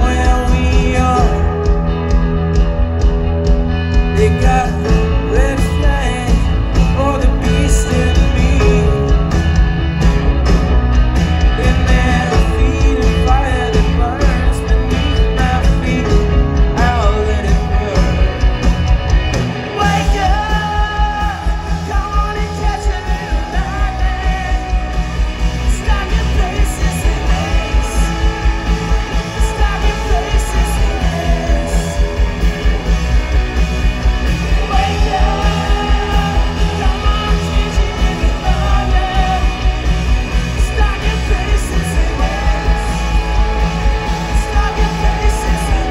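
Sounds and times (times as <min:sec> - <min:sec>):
man singing: 0:00.0 - 0:02.4, 0:04.0 - 0:09.7, 0:11.1 - 0:18.9, 0:19.5 - 0:33.6, 0:34.4 - 0:45.9
bass guitar: 0:00.0 - 0:45.9
drums: 0:00.0 - 0:45.9
electric guitar: 0:00.0 - 0:45.9.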